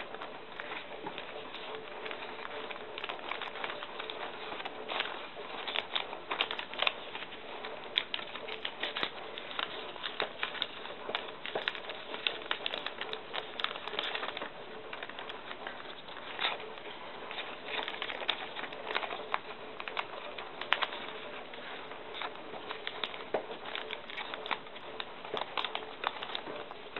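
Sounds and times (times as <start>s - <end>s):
thin paper crinkling: 0.0s - 26.9s.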